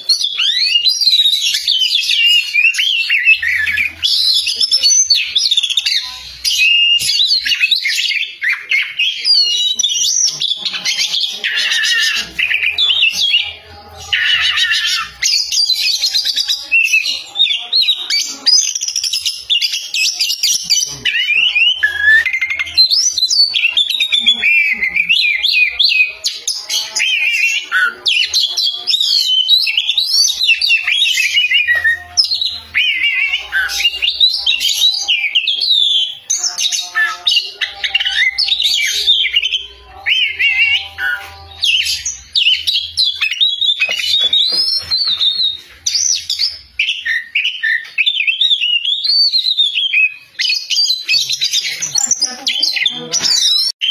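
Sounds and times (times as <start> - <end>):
bird singing whistles and warbles: 0.0 - 53.9.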